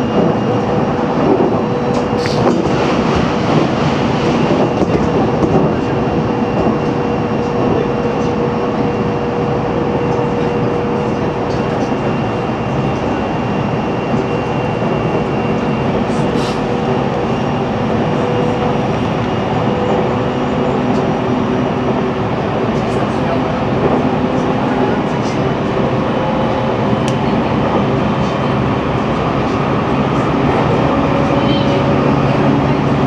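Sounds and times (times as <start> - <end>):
train rolling noise: 0.0 - 33.0.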